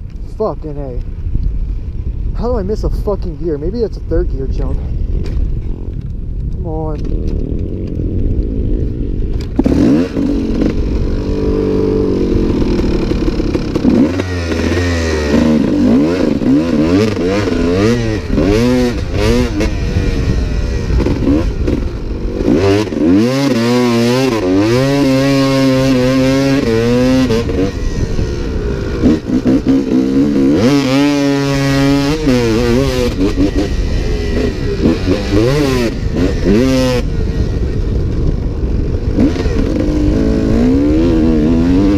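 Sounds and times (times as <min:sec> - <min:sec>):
dirt bike engine revving: 0:06.6 - 0:41.9.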